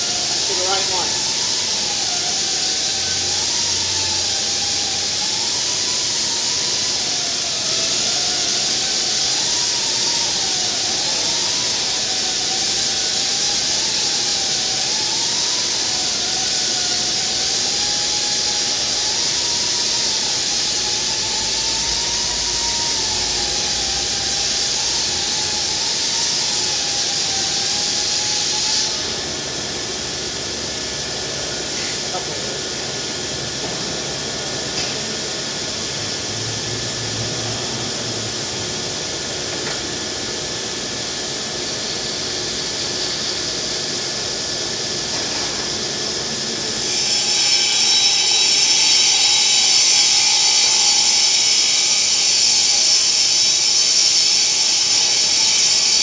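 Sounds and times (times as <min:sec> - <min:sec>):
spindle hissing and whining: 0:00.0 - 0:56.0.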